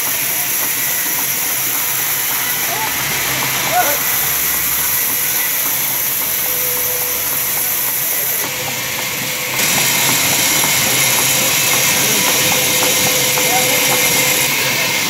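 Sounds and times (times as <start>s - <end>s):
band saw blade hissing through wood: 0.0s - 15.0s.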